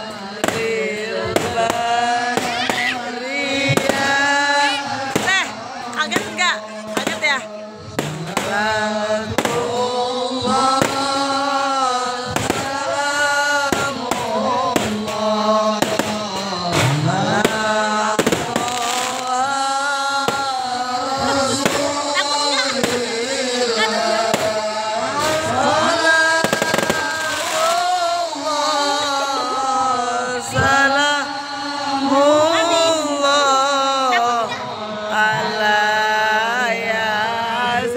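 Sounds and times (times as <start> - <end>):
person chanting devotional singing: 0.0 - 37.9
fireworks banging: 0.1 - 31.2.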